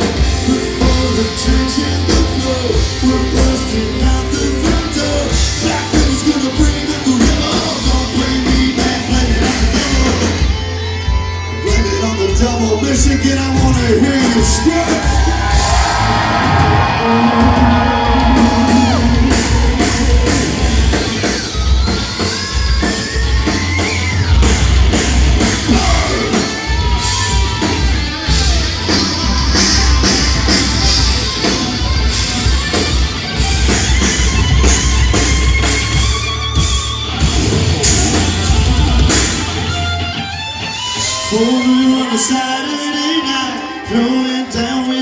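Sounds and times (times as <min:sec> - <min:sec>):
drum kit: 0:00.0 - 0:42.3
bass guitar: 0:00.0 - 0:42.5
crowd yelling: 0:00.0 - 0:45.0
electric guitar: 0:00.0 - 0:45.0.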